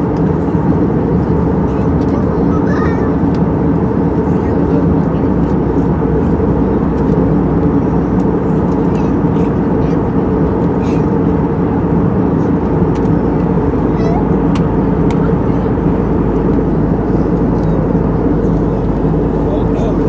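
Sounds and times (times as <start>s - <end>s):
airliner engine drone in cabin: 0.0s - 20.0s.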